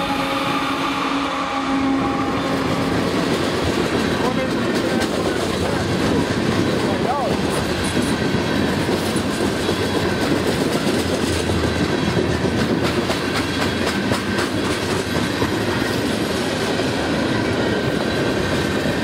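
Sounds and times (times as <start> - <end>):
train wheels rumbling on rails: 0.0 - 19.0
clickety-clack over rail joints: 2.0 - 19.0.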